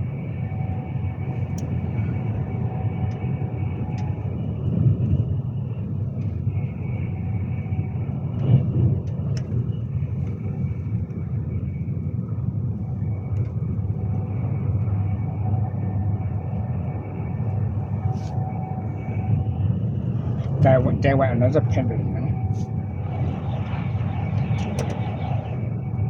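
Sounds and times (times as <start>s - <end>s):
electric train rumble inside carriage: 0.0s - 26.0s
faint whine: 0.0s - 26.0s.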